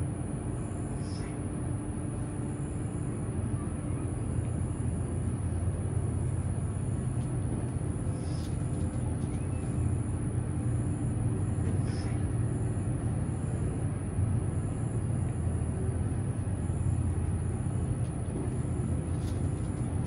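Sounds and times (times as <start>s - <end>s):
faint constant hum: 0.0s - 20.0s
low outdoor rumble: 0.0s - 20.0s.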